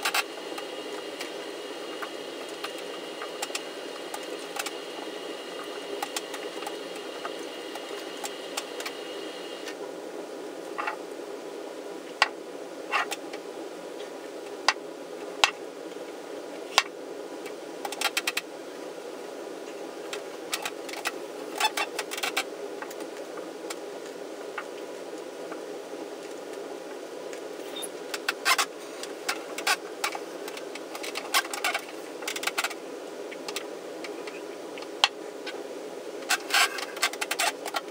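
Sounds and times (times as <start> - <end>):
steady hum: 0.0 - 37.9.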